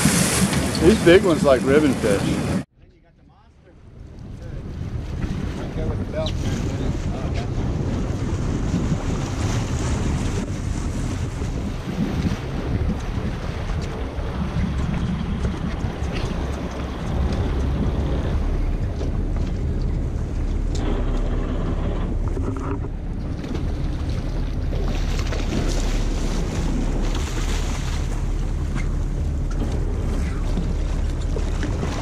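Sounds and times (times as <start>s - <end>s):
water slapping boat hull: 0.0s - 2.7s, 3.7s - 32.0s
wind rumbling on microphone: 0.0s - 2.7s, 3.5s - 32.0s.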